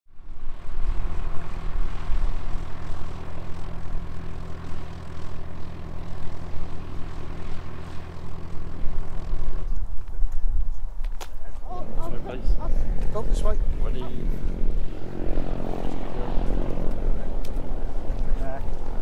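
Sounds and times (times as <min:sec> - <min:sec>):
propeller plane engines droning: 0:00.1 - 0:19.0.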